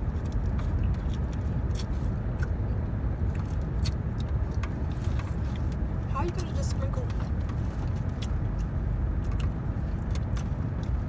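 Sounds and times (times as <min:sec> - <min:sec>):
car engine rumble inside cabin: 0:00.0 - 0:11.0.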